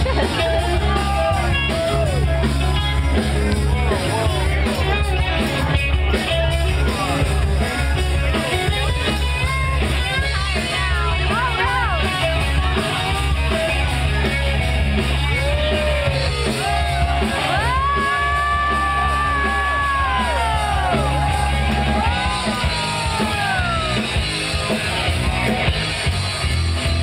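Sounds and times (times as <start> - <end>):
loud rock music: 0.0 - 27.0.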